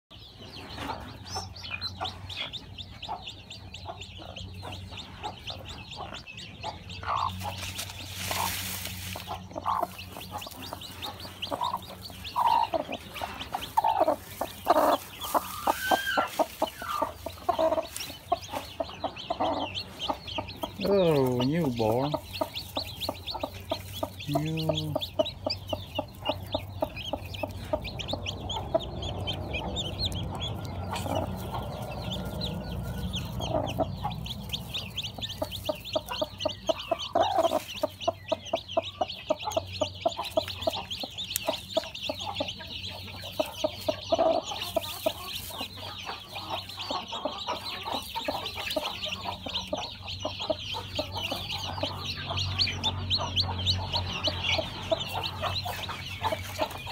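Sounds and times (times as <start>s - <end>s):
chicks peeping: 0.1s - 56.9s
low clucking calls: 0.8s - 56.9s.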